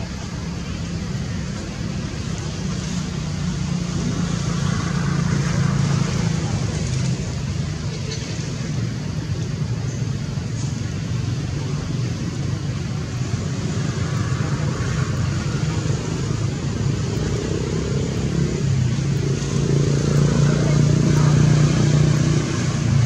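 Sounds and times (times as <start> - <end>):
outdoor background hiss: 0.0 - 23.0
vehicle engine running: 0.0 - 23.0.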